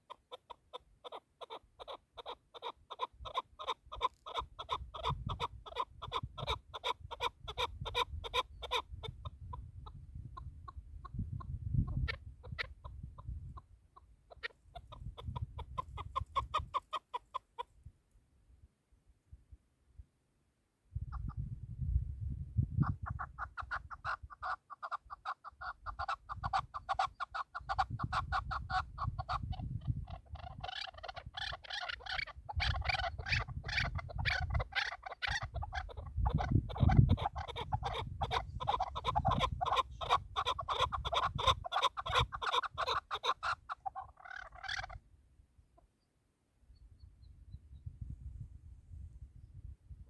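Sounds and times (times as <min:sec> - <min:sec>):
partridge clucking calls: 0:00.0 - 0:17.7, 0:21.1 - 0:21.4, 0:22.8 - 0:45.0.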